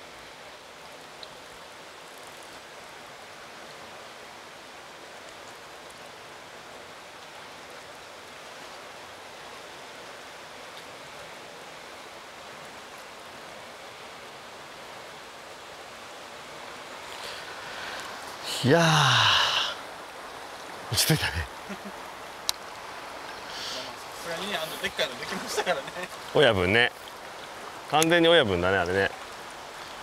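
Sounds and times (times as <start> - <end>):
fast-flowing water rushing: 0.0 - 30.0.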